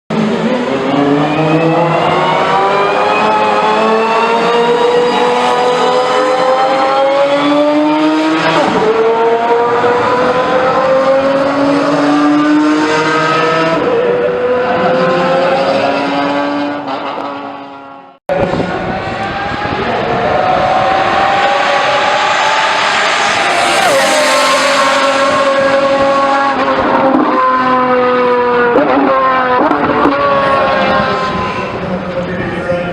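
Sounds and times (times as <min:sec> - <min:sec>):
sports car engine accelerating: 0:00.1 - 0:32.9.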